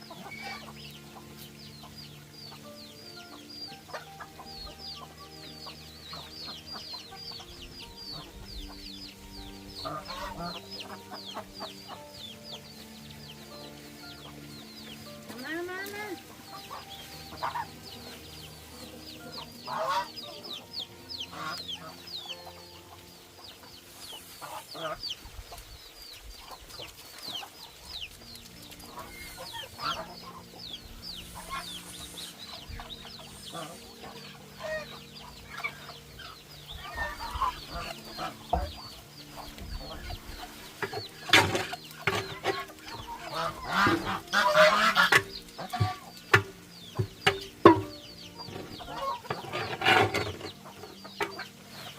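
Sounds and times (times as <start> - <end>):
chickens clucking: 0.0 - 51.9
chicks peeping: 0.0 - 51.9.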